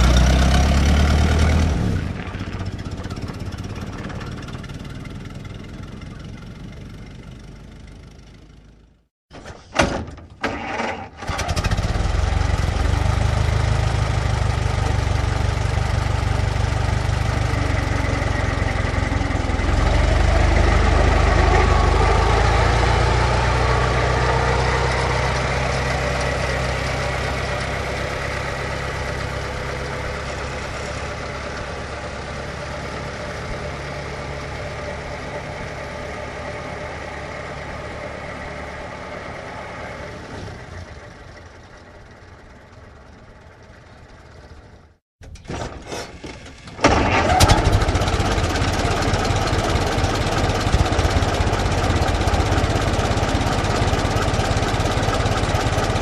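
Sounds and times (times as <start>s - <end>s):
old car engine running: 0.0s - 9.0s, 10.5s - 45.5s, 46.4s - 56.0s
different engine sound: 0.0s - 9.1s, 10.4s - 45.0s, 46.5s - 56.0s.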